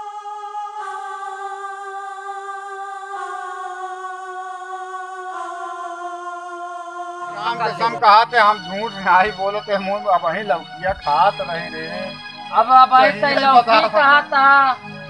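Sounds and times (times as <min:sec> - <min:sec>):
sustained chords music: 0:00.0 - 0:15.0.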